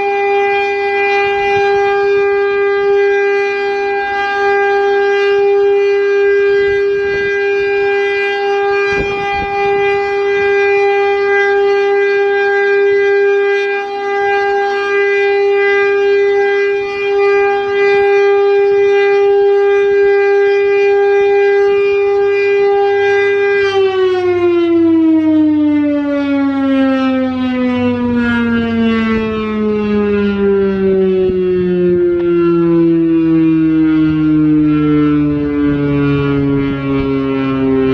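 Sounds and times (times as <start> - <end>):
outdoor warning siren: 0.0 - 37.9.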